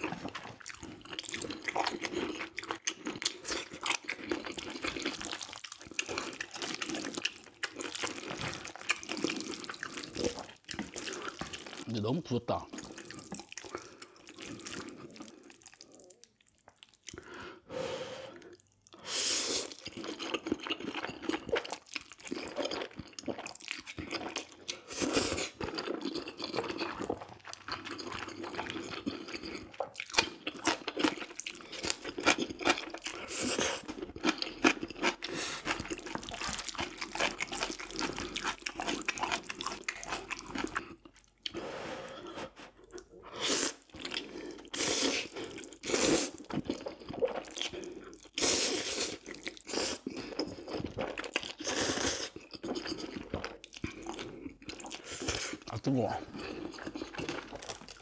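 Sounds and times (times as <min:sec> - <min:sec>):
wet sticky chewing: 0:00.0 - 0:17.4, 0:19.6 - 0:41.6, 0:42.8 - 0:58.0.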